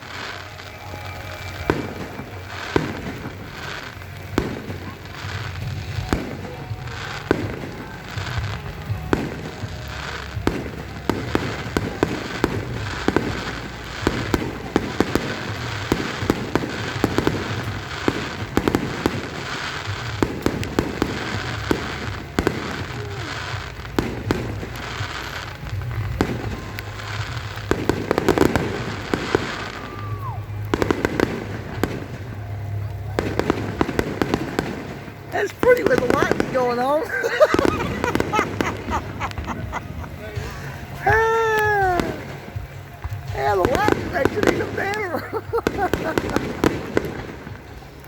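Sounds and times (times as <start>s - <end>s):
fireworks booms and crackling pops: 0.0s - 48.0s.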